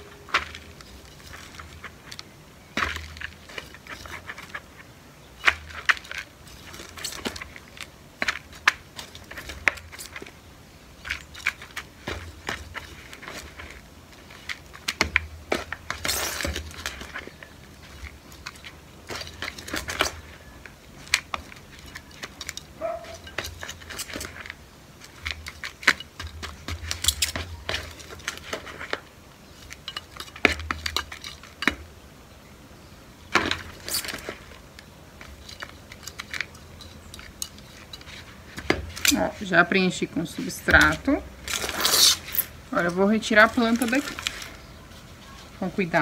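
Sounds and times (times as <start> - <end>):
scoop scraping plastic pots: 0.0 - 31.9, 33.4 - 46.0
soil rustling: 0.0 - 46.0.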